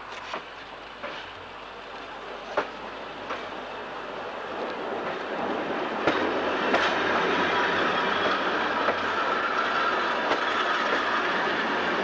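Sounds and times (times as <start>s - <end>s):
wheels clicking over rail joints: 0.0s - 3.9s, 4.6s - 12.0s
railcar wheels rumbling: 0.0s - 12.0s.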